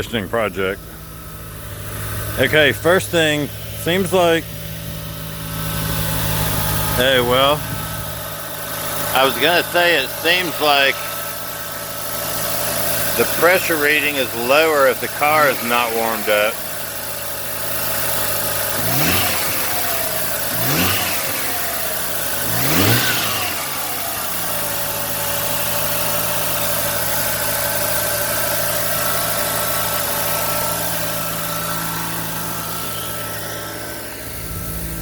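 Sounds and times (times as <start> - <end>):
engine idling fast: 0.0 - 35.0
rotary engine revving: 0.0 - 35.0.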